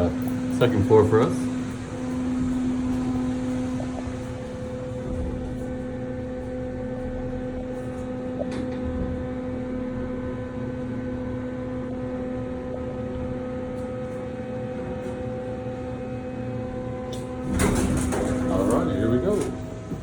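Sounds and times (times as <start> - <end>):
elevator hum: 0.0 - 20.0.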